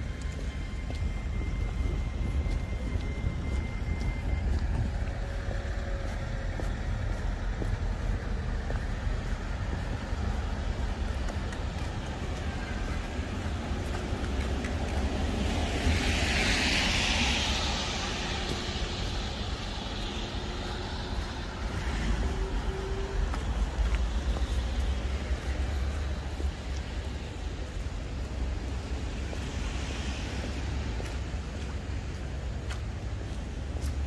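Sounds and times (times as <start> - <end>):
low street rumble: 0.0 - 34.0.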